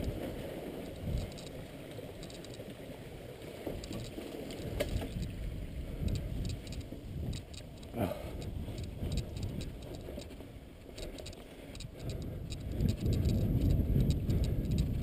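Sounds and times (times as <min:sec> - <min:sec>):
tyre and wind rumble: 0:00.0 - 0:02.8, 0:03.5 - 0:15.0
bike rattles and clicks: 0:00.0 - 0:15.0.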